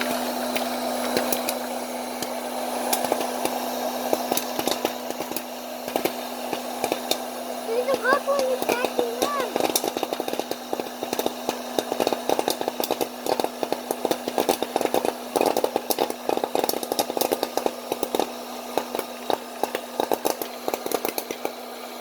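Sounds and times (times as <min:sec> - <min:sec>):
popcorn kernels popping: 0:00.0 - 0:21.8.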